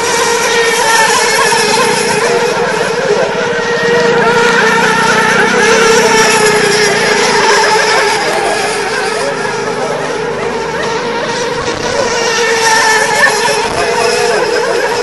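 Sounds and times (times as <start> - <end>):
small engines whining: 0.0 - 15.0.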